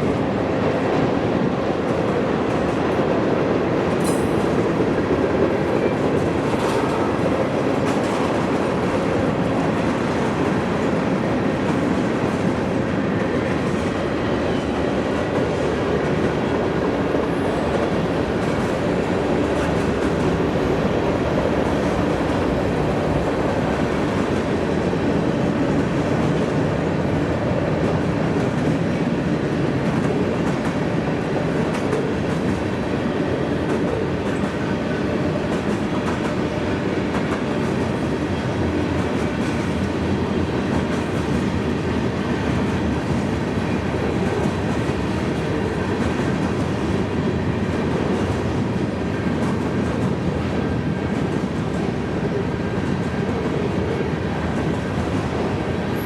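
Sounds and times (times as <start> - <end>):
freight train cars rolling: 0.0 - 56.0.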